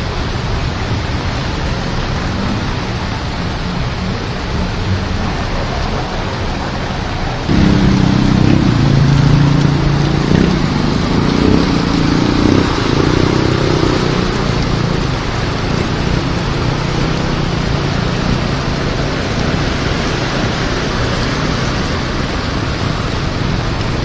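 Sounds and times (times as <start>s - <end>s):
heavy rain hissing: 0.0s - 24.0s
vehicle engine humming: 0.0s - 24.0s.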